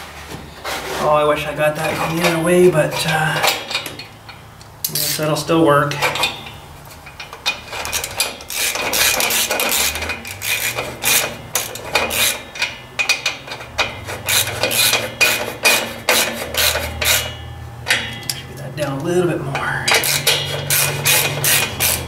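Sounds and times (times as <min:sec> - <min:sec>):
ratchet clicking and scraping: 0:02.0 - 0:22.0.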